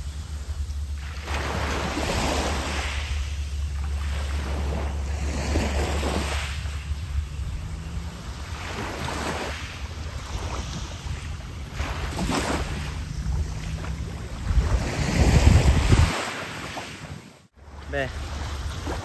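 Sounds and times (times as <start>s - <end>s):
wind on microphone: 0.0s - 17.2s
sea waves washing ashore: 0.0s - 19.0s.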